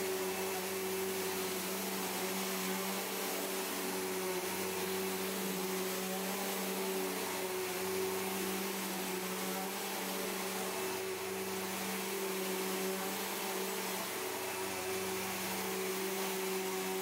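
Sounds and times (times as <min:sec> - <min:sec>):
vacuum cleaner running on carpet: 0:00.0 - 0:17.0.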